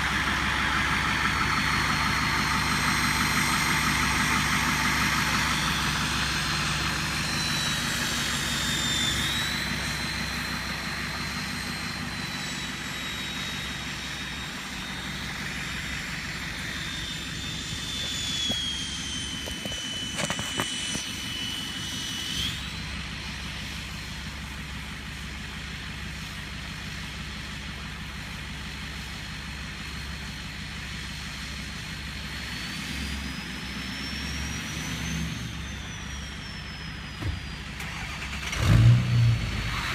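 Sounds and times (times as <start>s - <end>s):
turbocharger whistle: 0.0s - 24.9s, 32.4s - 39.9s
diesel engine idling: 0.0s - 39.9s.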